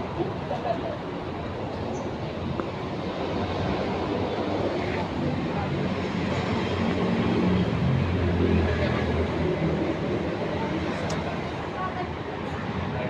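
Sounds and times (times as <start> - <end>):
bus engine rumble: 0.0 - 13.0
road noise: 0.0 - 13.0.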